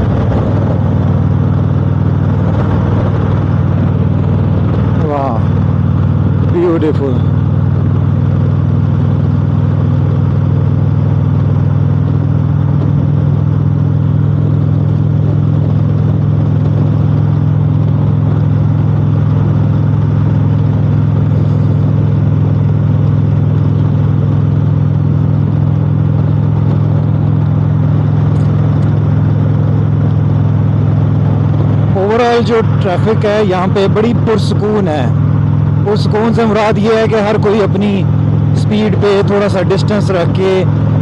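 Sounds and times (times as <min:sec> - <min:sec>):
motorcycle engine cruising: 0:00.0 - 0:41.0
wind and road noise: 0:00.0 - 0:41.0.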